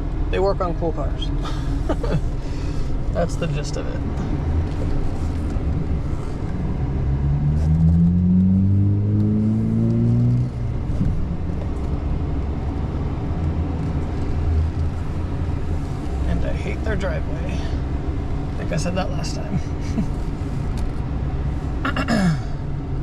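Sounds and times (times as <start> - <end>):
truck engine accelerating: 0.0 - 23.0.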